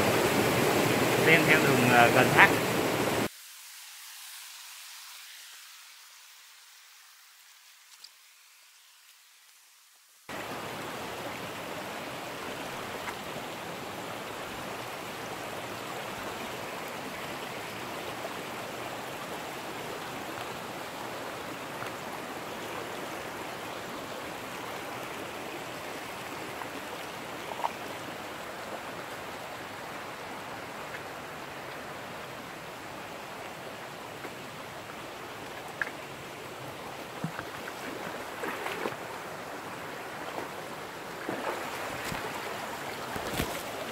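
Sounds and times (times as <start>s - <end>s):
stream running over rocks: 0.0s - 43.9s.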